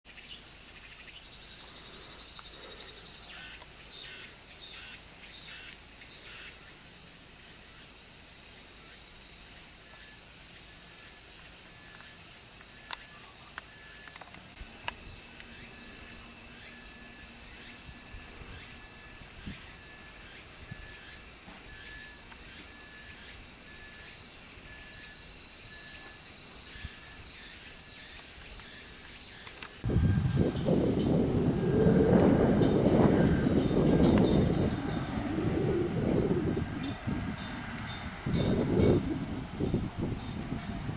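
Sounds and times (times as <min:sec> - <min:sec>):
high-pitched insect chorus: 0:00.1 - 0:40.9.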